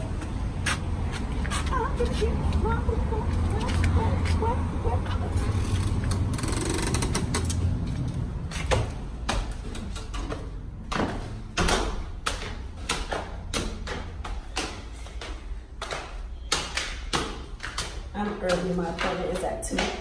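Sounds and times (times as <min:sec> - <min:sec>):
footsteps climbing stairs: 0:00.0 - 0:20.0.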